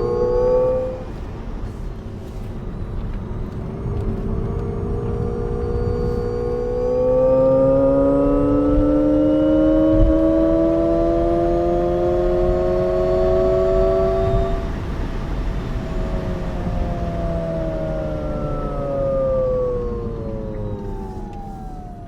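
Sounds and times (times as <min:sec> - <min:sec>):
low road rumble: 0:00.0 - 0:22.0
synthesized car drive tone: 0:00.0 - 0:22.0.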